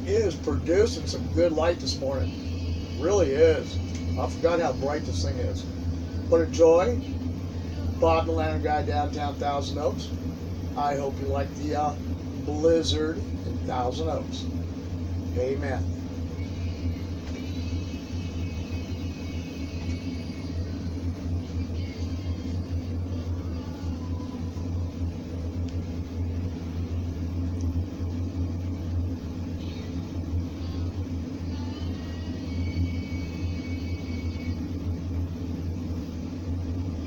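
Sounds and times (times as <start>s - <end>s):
lantern burner roaring: 0.0s - 37.0s.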